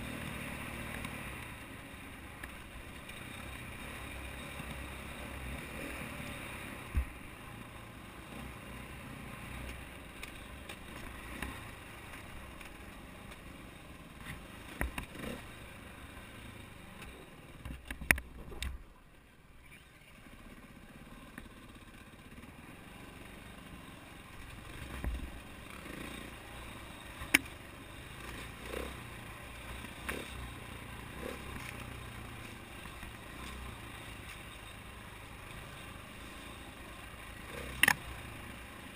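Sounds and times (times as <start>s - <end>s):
dirt bike engine running: 0.0s - 17.8s, 20.0s - 38.9s.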